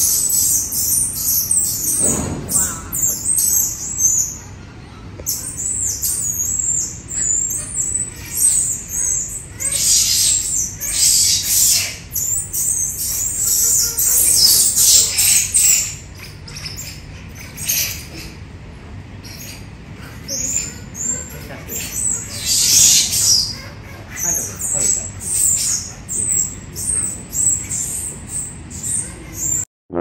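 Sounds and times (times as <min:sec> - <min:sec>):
many birds chirping: 0:00.0 - 0:29.7.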